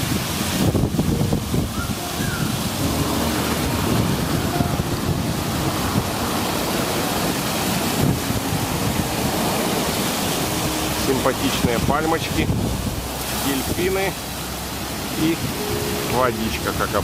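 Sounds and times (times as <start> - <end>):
water spraying and splashing: 0.0 - 17.0
wind buffeting microphone: 0.0 - 17.0.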